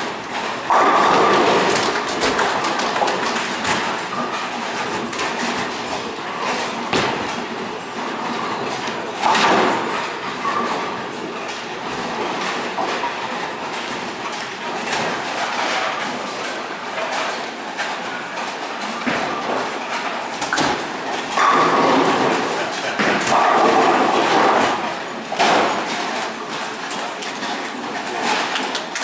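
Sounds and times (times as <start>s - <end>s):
bowling balls rolling on lanes: 0.0s - 29.0s.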